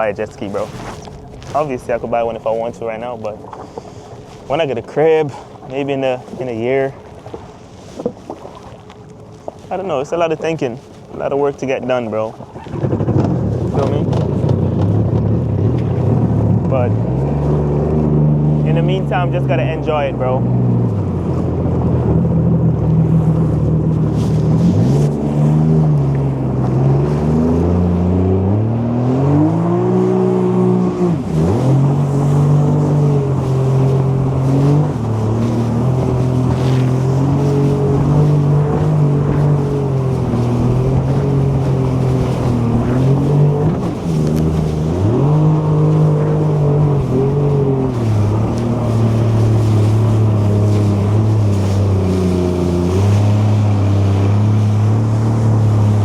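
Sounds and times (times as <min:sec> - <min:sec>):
jet ski engine revving: 0:00.0 - 0:06.9, 0:11.2 - 0:56.0.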